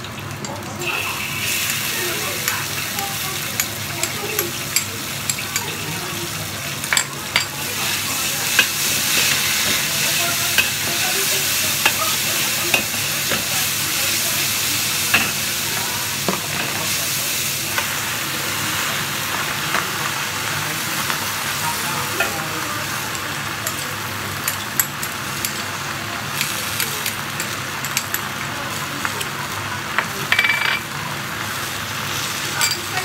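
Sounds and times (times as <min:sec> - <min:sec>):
garlic sizzling in hot oil: 0:00.0 - 0:33.0.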